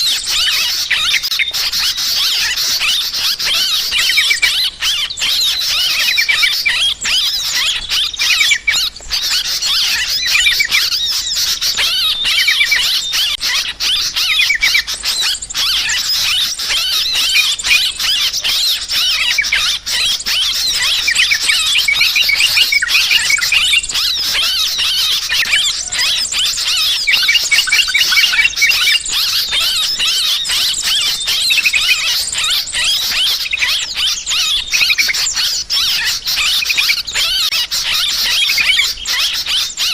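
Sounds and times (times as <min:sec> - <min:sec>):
birds chattering in alarm: 0:00.0 - 0:39.9.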